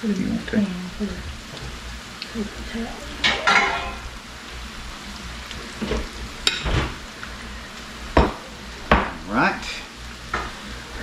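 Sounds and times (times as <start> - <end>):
oil frying in a skillet: 0.0 - 11.0.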